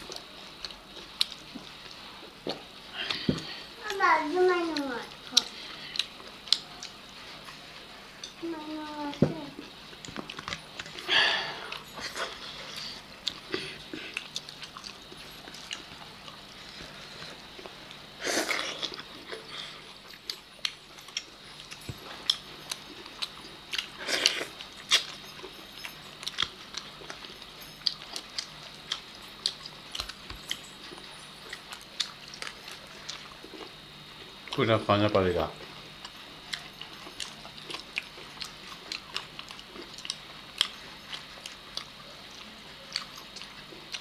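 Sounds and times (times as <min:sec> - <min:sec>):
people chewing food: 0:00.0 - 0:44.0.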